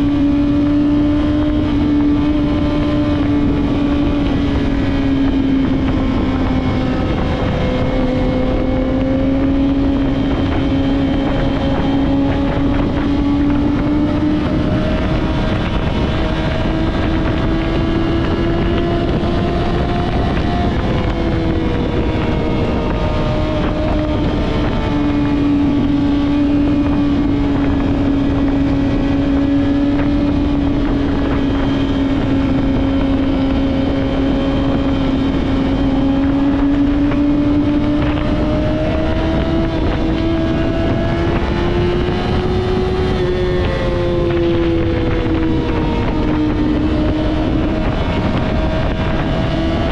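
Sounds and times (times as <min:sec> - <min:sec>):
motorcycle engine cruising: 0:00.0 - 0:49.9
wind rush on microphone: 0:00.0 - 0:49.9.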